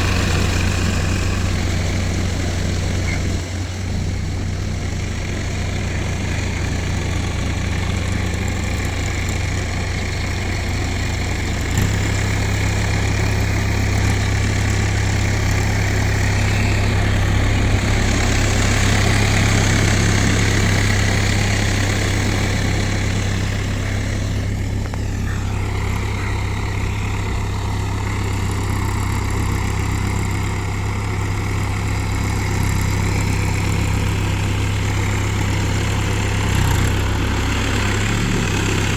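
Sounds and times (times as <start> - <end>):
tractor diesel engine drone: 0.0 - 38.9.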